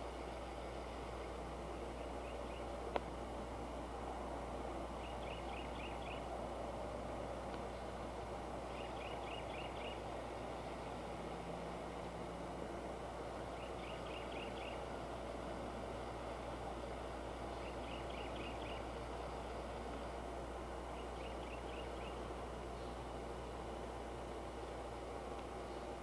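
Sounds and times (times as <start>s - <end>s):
background hiss: 0.0s - 26.0s
low hum: 0.0s - 26.0s.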